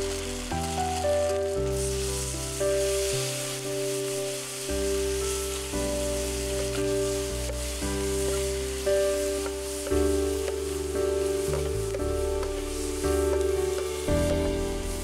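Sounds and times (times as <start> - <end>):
background music of held notes: 0.0 - 15.0
food sizzling in hot oil: 0.0 - 15.0.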